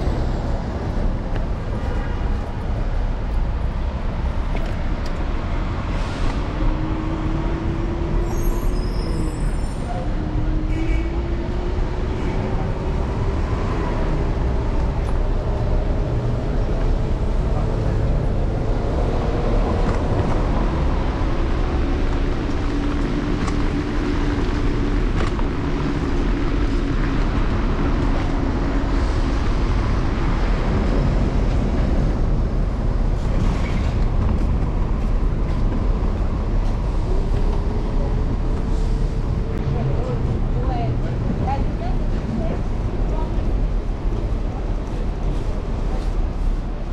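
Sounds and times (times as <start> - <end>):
wind and road noise: 0.0 - 46.9.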